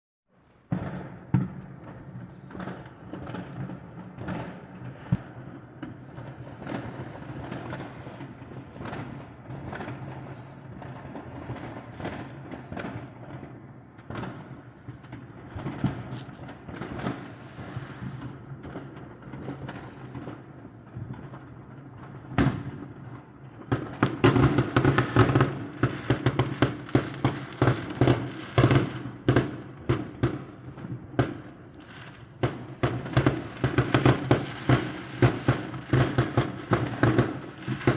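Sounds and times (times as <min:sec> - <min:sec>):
fireworks bangs and crackles: 0:00.3 - 0:37.9.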